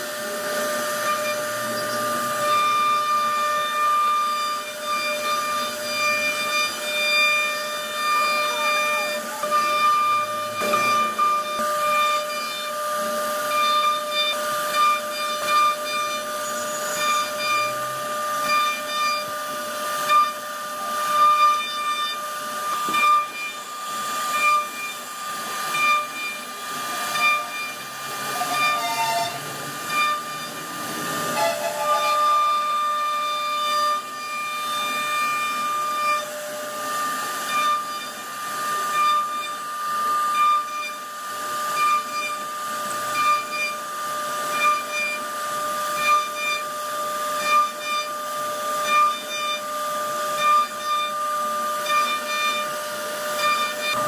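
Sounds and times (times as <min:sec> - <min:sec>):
router spindle whining: 0:00.0 - 0:54.0.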